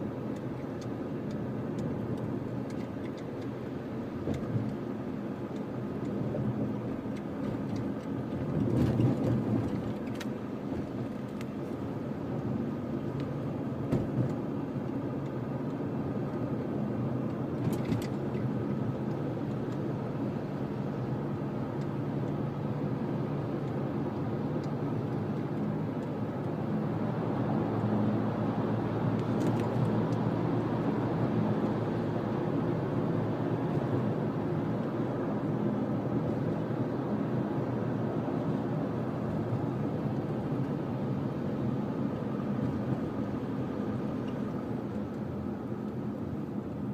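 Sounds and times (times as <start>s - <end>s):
engine and road noise hum: 0.0s - 46.9s.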